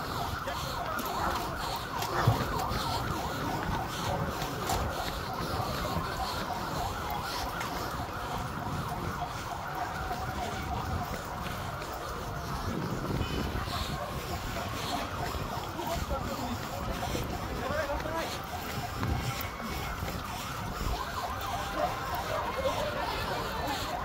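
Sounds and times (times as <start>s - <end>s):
siren wailing: 0.0s - 24.0s.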